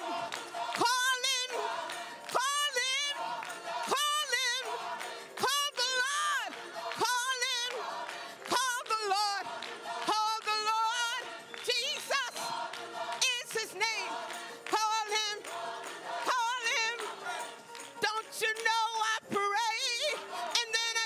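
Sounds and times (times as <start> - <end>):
woman singing lead: 0.0 - 12.5, 13.1 - 15.6, 16.2 - 21.0
gospel choir singing: 0.0 - 21.0.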